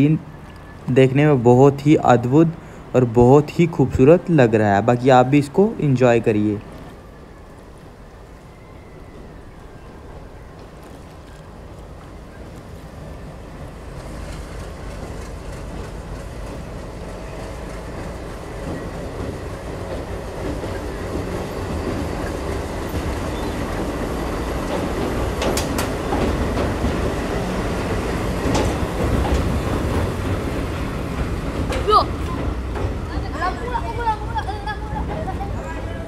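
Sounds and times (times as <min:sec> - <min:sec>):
train rumbling over a steel bridge: 0:00.0 - 0:36.0.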